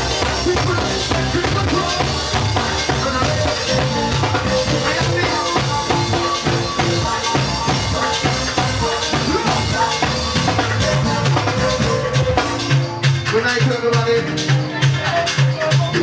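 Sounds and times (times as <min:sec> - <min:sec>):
music with drum kit beat: 0:00.0 - 0:16.0.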